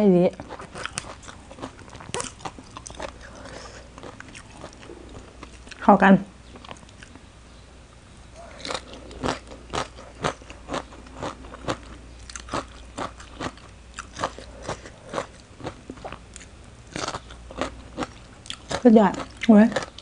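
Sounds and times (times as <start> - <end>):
crunchy chewing: 0.3 - 7.2, 8.3 - 20.0.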